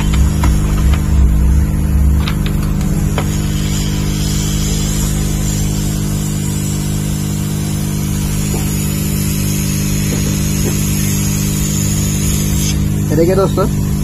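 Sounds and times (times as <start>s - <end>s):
hot-air rework station blowing: 0.0s - 14.0s.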